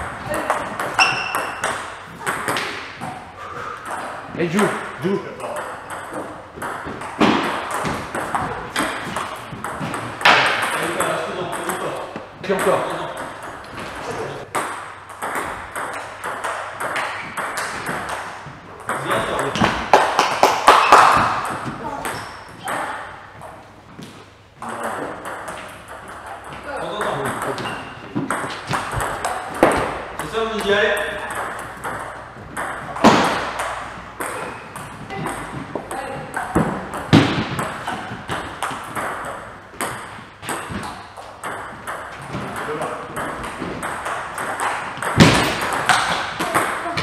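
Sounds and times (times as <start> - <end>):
table tennis balls clicking: 0.0 - 47.0
table tennis rally hits: 0.0 - 47.0.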